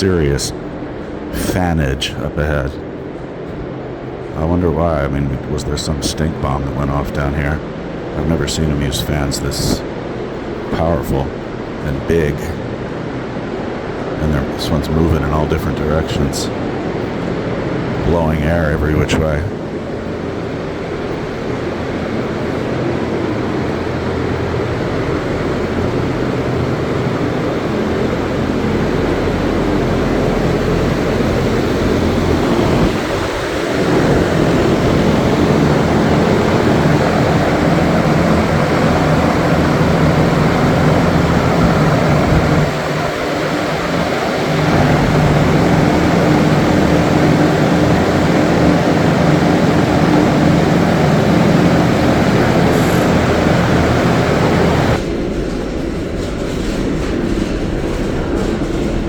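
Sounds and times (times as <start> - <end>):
industrial fans blowing air: 0.0 - 59.0
low hum: 0.0 - 59.0.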